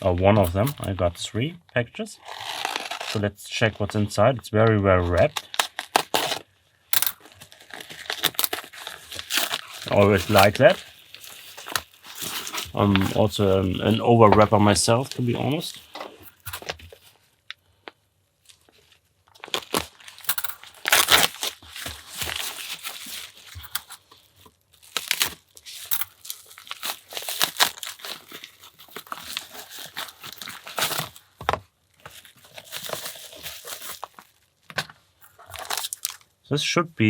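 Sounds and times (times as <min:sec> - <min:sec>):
packaging tearing and rustling: 0:00.0 - 0:01.0, 0:02.2 - 0:04.0, 0:05.2 - 0:17.8, 0:18.4 - 0:36.3.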